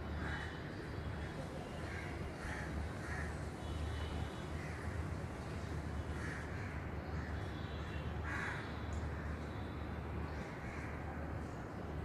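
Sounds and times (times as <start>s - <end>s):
harsh caw-like bird calls: 0.0s - 11.2s.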